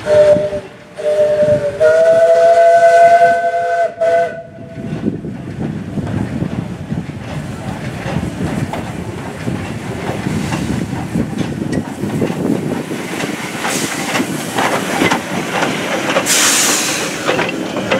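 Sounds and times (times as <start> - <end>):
steam hissing: 0.0 - 17.9
steam locomotive wheels clanking: 0.0 - 17.9.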